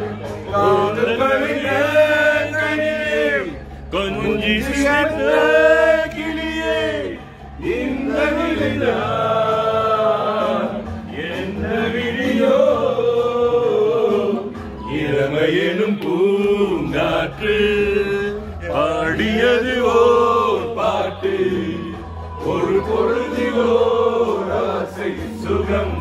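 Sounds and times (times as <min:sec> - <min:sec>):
men singing in chorus: 0:00.0 - 0:26.0.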